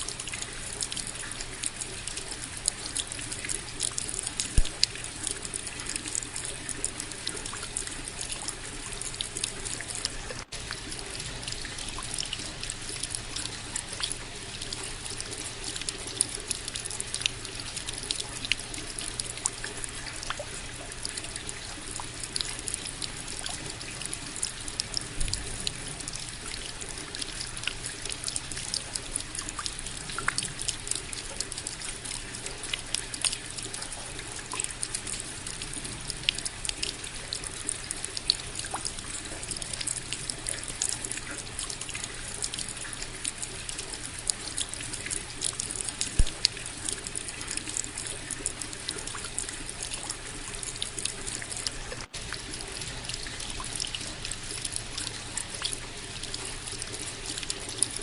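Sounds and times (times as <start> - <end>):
rain drops ticking: 0.0 - 58.0
running water: 0.0 - 58.0.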